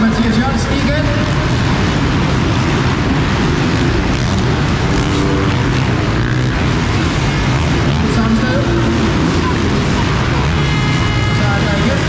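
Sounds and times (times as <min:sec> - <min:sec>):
motocross bike engines racing: 0:00.0 - 0:12.0.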